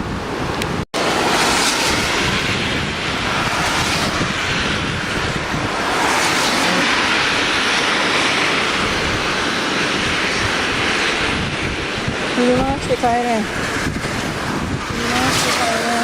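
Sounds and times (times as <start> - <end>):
river rushing: 0.0 - 16.0
wind buffeting microphone: 0.0 - 16.0.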